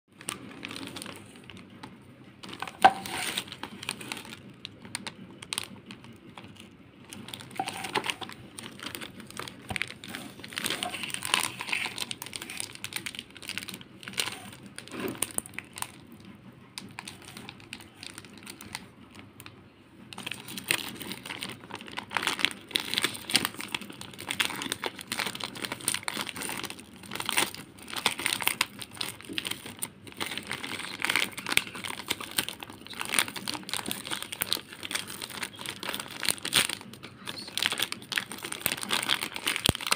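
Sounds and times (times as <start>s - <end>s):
plastic wrapper crinkling: 0.1s - 39.9s.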